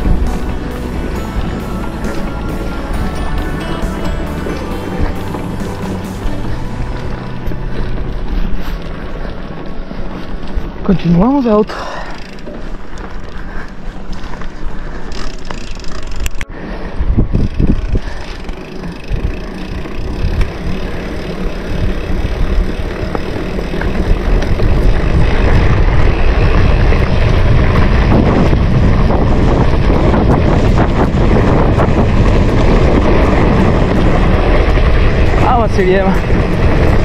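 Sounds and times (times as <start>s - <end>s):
wind noise on microphone: 0.0s - 11.3s, 12.6s - 37.0s
bike clicks and rattles: 0.0s - 37.0s.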